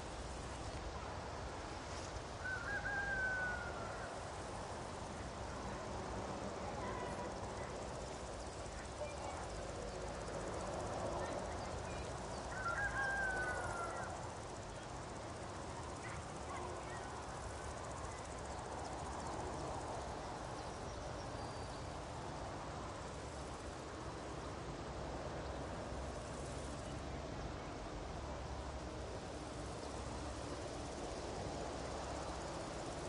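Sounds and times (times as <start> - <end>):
soft outdoor hiss: 0.0 - 33.0.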